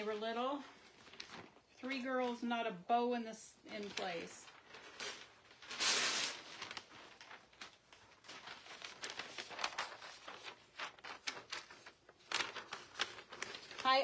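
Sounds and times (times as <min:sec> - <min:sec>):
paper rustling and crinkling: 0:00.0 - 0:02.5, 0:03.7 - 0:14.0.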